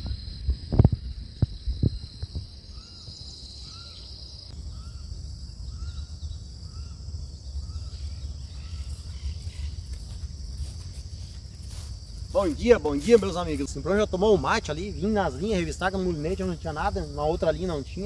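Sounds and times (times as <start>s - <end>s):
high insect buzz: 0.0s - 18.0s.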